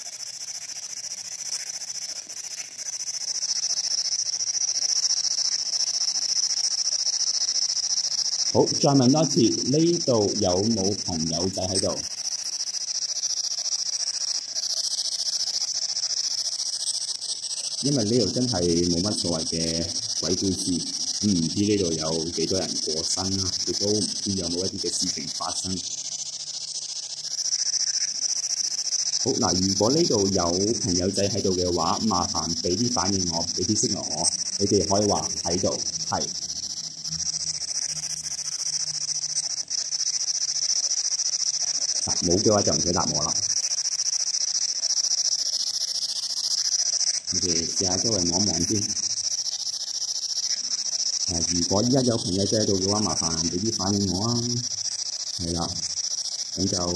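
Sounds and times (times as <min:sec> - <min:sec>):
radio static hiss fluttering: 0:00.0 - 0:56.9.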